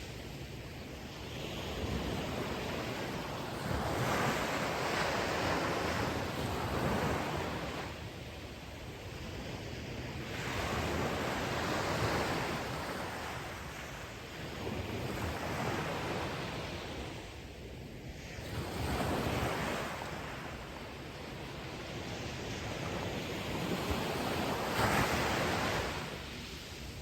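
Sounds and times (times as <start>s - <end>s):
waves breaking on shore: 0.0s - 27.0s.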